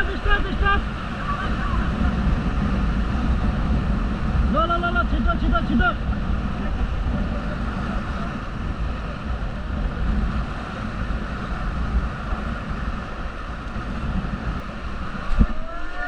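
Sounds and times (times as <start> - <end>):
river water rushing: 0.0 - 16.0
wind buffeting microphone: 0.0 - 16.0.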